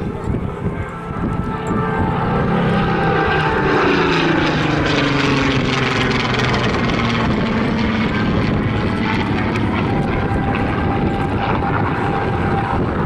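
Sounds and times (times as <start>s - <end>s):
aircraft engine passing: 0.0s - 13.0s.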